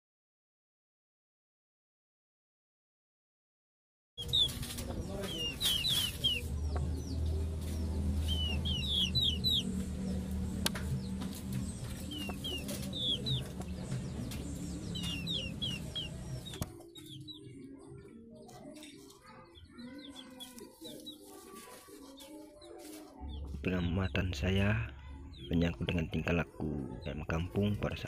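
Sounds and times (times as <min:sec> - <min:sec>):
chickens chirping: 0:04.2 - 0:28.0.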